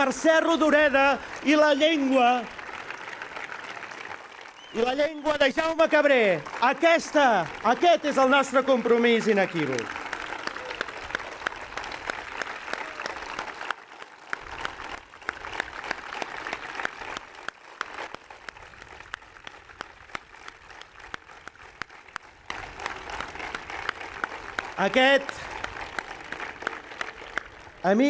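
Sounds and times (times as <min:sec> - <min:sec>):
crowd applauding: 0:00.0 - 0:28.0.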